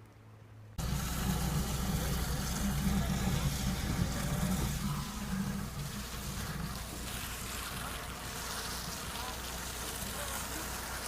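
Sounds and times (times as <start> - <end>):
rain falling: 0.8 - 11.0.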